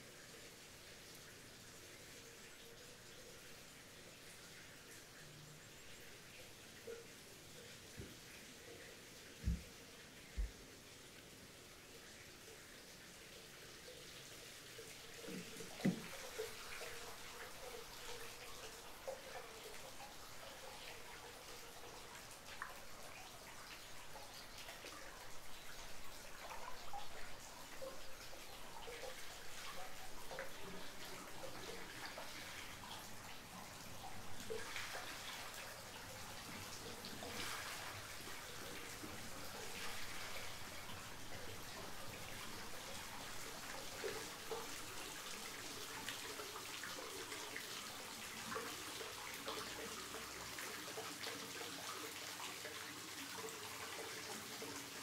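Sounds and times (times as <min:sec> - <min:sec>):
water trickling into pool: 0:00.0 - 0:55.0.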